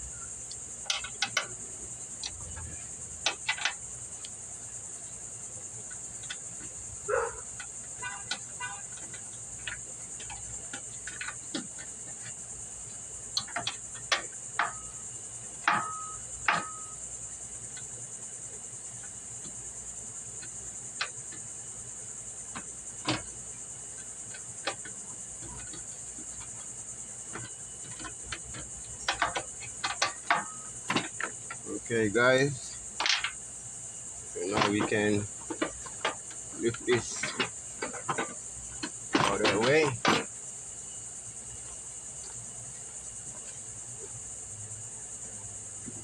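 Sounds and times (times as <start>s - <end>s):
insect chorus: 0.0s - 46.0s.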